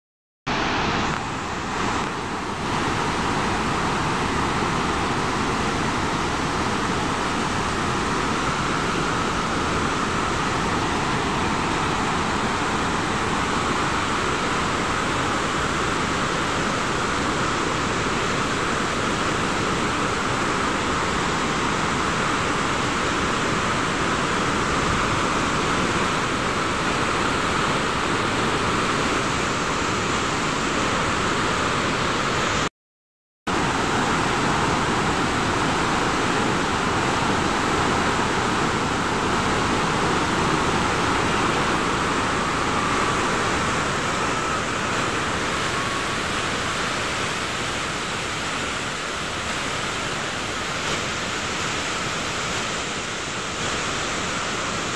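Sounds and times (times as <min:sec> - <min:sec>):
waterfall rushing over rocks: 0:00.5 - 0:32.7, 0:33.5 - 0:54.9.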